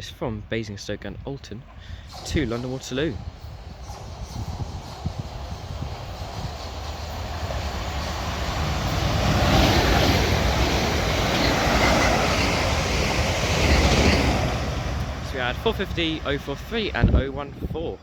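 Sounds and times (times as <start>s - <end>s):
train passing at speed: 1.7s - 18.0s.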